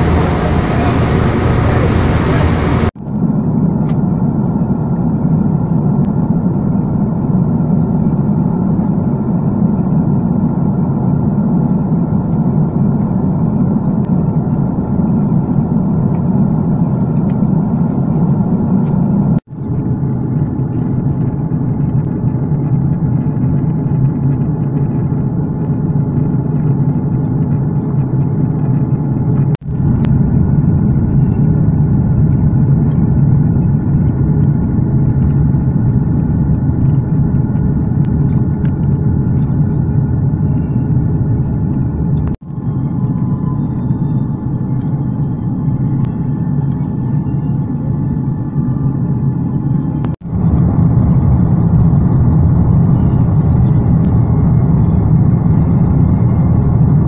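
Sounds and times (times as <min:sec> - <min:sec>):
engine droning: 0:00.0 - 0:03.0, 0:08.2 - 0:57.0.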